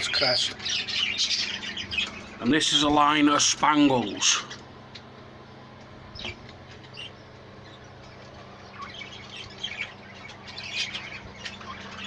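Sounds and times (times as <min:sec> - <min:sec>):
budgerigars chirping: 0:00.0 - 0:05.1, 0:06.1 - 0:12.0
steady low hum: 0:00.0 - 0:12.0.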